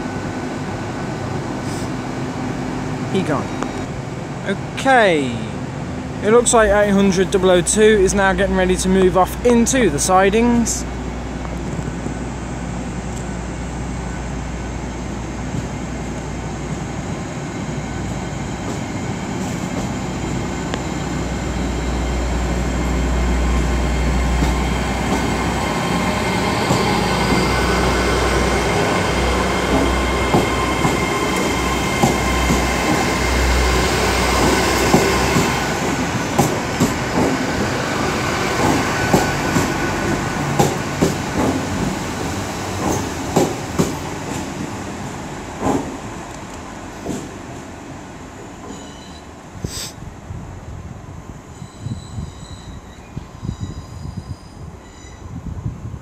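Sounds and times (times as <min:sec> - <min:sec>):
train diesel engine hum: 0:00.0 - 0:56.0.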